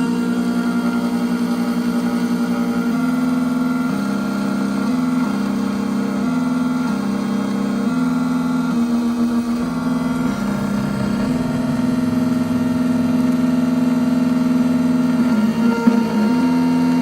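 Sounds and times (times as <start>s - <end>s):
key-cutting machine motor hum: 0.0s - 17.0s.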